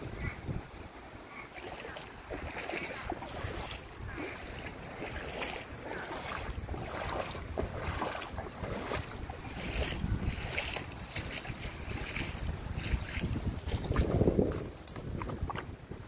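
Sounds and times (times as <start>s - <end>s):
wind rumble on microphone: 0.0s - 1.0s, 1.6s - 16.0s
boots splashing through water: 1.3s - 15.8s.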